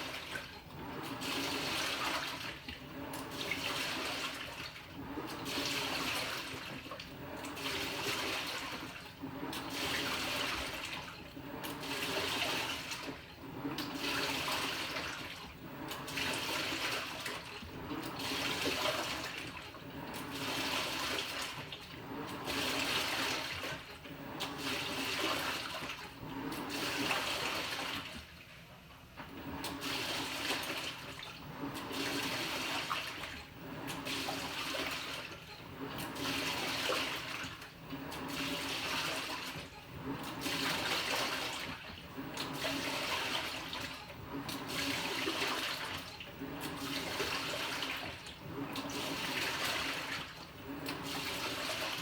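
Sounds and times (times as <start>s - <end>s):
washing machine motor hum: 0.0s - 52.0s
water and laundry sloshing: 0.0s - 52.0s.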